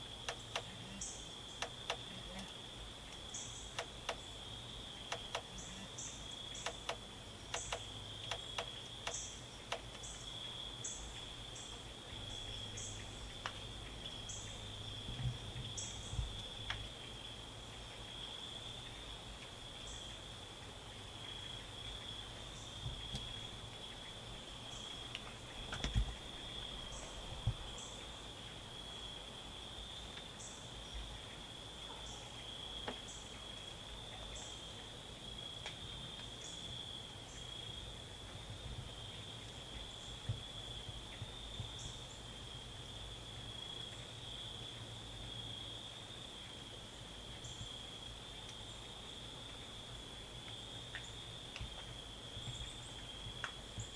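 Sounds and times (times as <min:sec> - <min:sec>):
higher insect chirps: 0:00.0 - 0:38.3, 0:38.9 - 0:53.9
insects trilling: 0:00.0 - 0:53.9.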